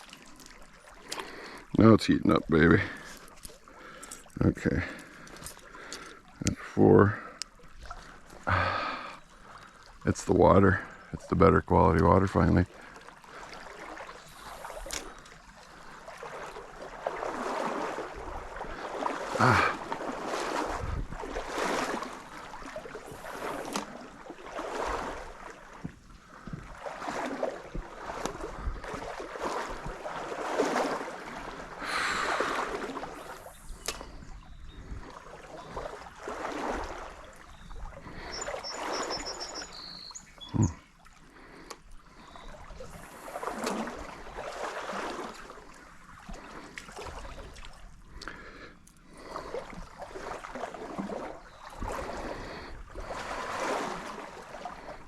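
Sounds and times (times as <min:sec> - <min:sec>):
legs swishing through water: 0:00.0 - 0:11.4, 0:12.0 - 0:55.0.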